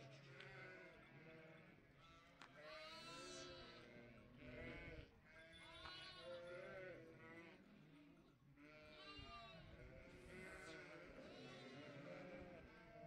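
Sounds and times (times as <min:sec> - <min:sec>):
sheep and lambs bleating: 0:00.3 - 0:13.0.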